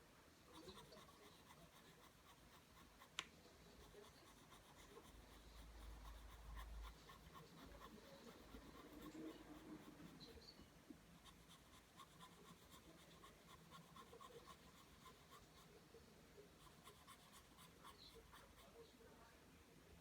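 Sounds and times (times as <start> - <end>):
pencil scratching on paper: 0.5 - 10.4, 11.2 - 15.8, 16.6 - 18.8.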